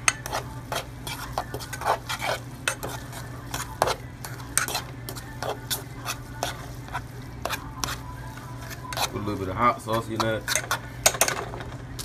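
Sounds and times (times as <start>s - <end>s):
utensil scraping a pan: 0.0s - 10.9s.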